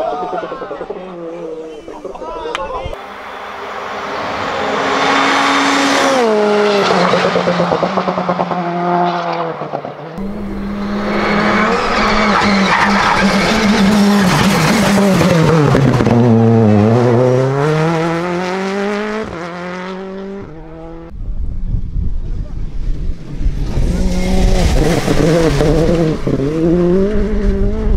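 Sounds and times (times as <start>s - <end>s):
rally car engine at high revs: 3.2s - 21.1s, 23.2s - 27.9s.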